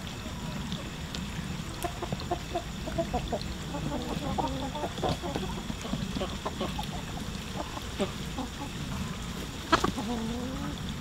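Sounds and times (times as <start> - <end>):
hens clucking: 1.6 - 10.9.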